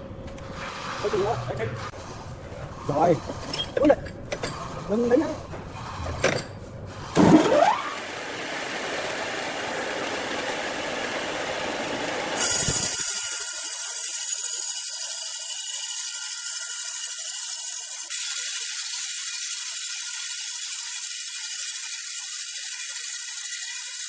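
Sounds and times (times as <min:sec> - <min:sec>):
sawmill machinery noise: 0:04.3 - 0:24.0.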